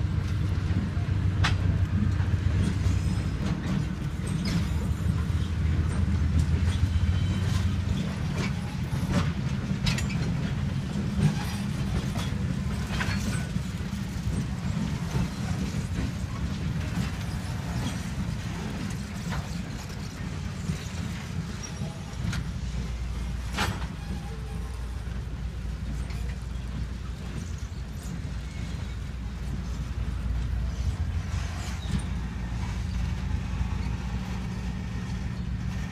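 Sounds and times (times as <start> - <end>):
diesel locomotive engines rumbling: 0.0 - 35.9
wheels clicking over rails: 0.2 - 35.9.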